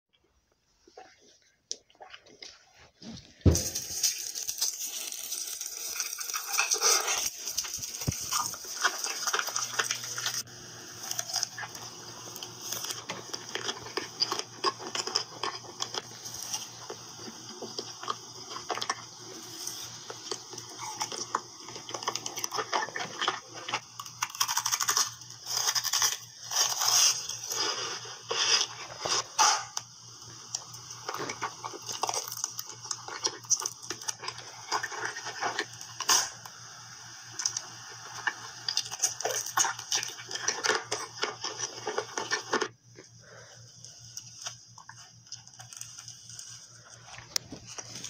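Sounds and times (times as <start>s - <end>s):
crunching and chewing: 0.1s - 36.5s, 37.3s - 48.0s.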